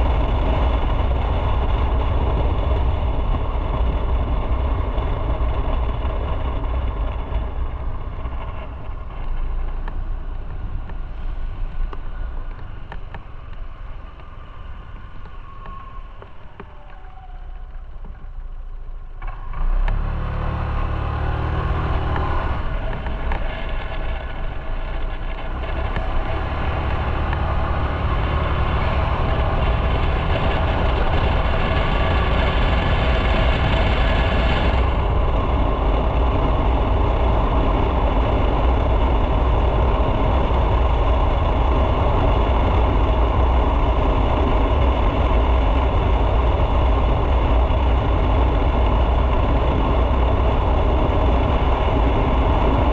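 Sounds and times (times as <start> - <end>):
motorcycle engine: 0.0 - 52.9
road noise: 0.0 - 52.9.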